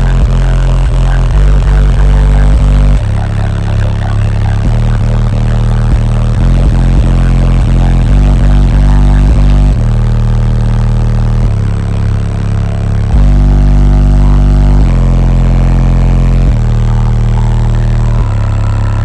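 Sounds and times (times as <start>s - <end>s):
bass-heavy music through subwoofers: 0.0s - 19.0s.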